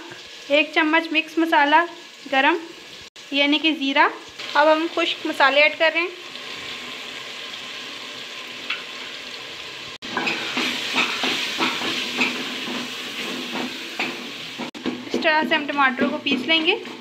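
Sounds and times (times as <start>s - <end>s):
masala sizzling in oil: 0.0s - 17.0s.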